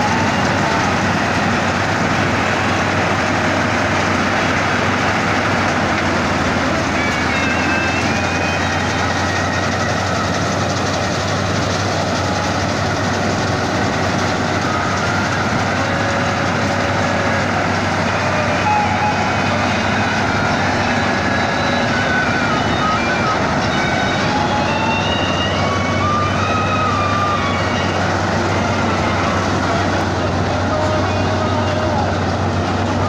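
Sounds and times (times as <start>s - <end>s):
combine harvester engine drone: 0.0s - 33.0s.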